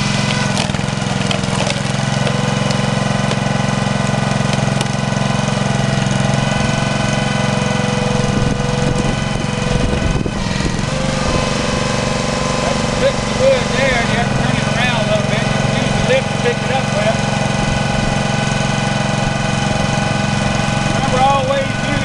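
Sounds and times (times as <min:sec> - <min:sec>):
engine knocks: 0:00.0 - 0:22.0
small gasoline engine running: 0:00.0 - 0:22.0.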